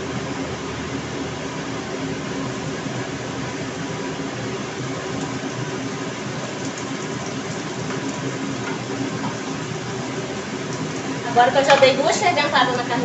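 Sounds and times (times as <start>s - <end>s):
range hood fan humming: 0.0s - 13.0s
onion sizzling in fat: 1.6s - 13.0s.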